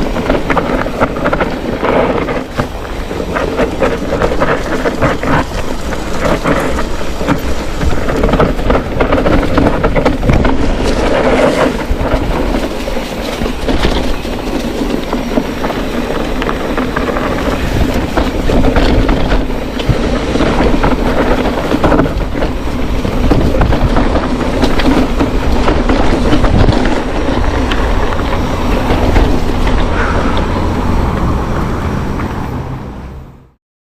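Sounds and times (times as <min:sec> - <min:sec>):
bike rattling over rough trail: 0:00.0 - 0:33.0.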